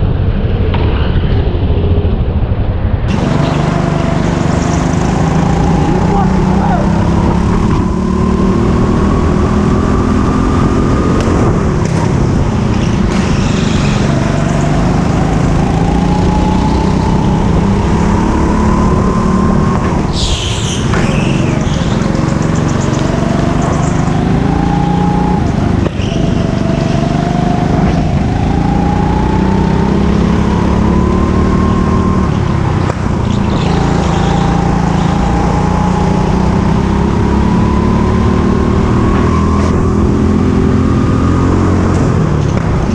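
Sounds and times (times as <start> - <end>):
go-kart engine revving: 3.1 - 42.9.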